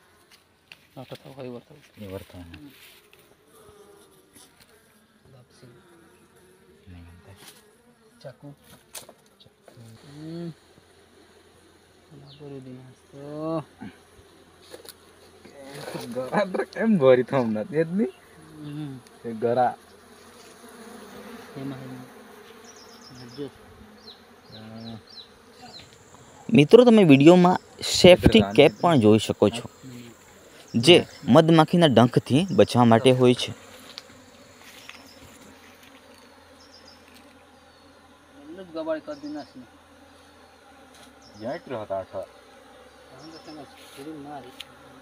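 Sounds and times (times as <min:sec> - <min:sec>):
bees flying close by: 0:00.0 - 0:45.0
honeybees buzzing: 0:00.0 - 0:45.0.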